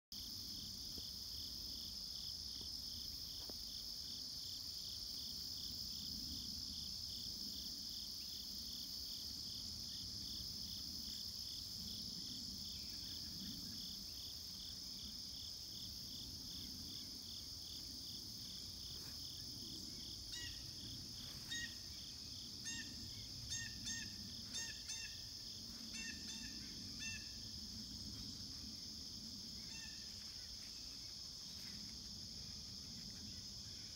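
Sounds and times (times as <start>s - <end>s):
cicadas droning: 0.2s - 33.9s.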